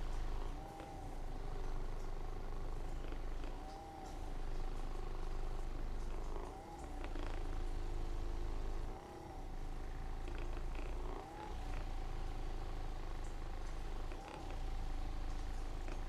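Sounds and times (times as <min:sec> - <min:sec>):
low motor-like hum: 0:00.0 - 0:16.0.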